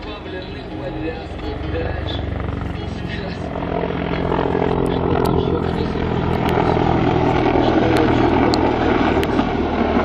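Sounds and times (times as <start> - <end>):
helicopter rotor and turbine noise: 0.0 - 10.0.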